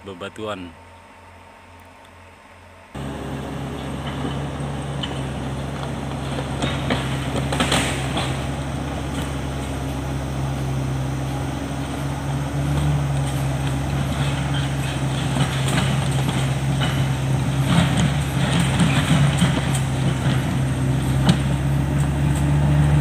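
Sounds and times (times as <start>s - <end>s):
bulldozer diesel engine running: 2.9s - 23.0s
clanks and cracks of tracks and wood: 3.0s - 22.6s.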